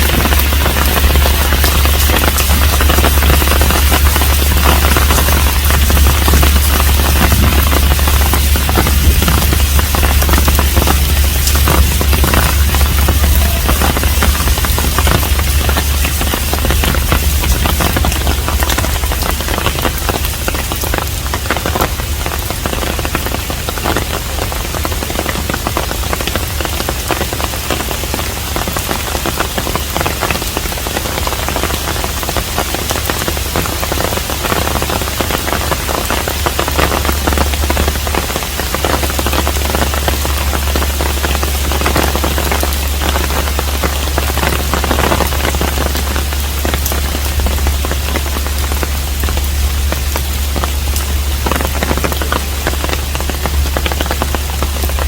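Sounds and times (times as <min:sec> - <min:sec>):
constant low rumble: 0:00.0 - 0:55.0
steady rain patter: 0:00.0 - 0:55.0.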